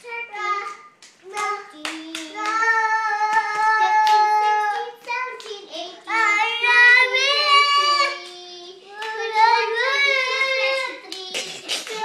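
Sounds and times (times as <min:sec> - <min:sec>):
young child singing: 0:00.0 - 0:12.0.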